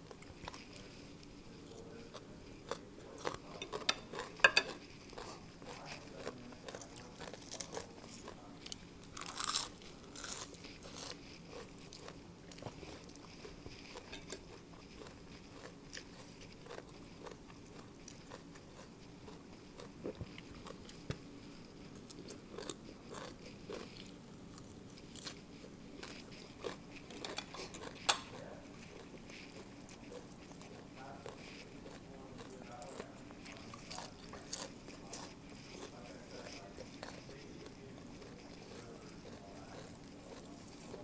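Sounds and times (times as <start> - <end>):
crunching raw vegetables: 0.0 - 41.0.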